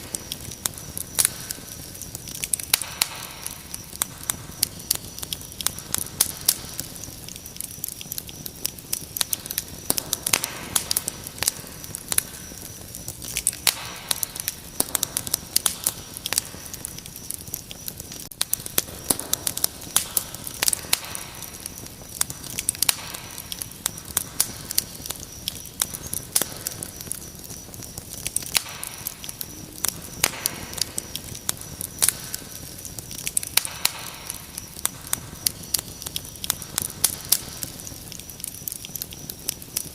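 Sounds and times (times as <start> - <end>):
crickets trilling: 0.0 - 39.9
wood fire crackling: 0.0 - 39.9.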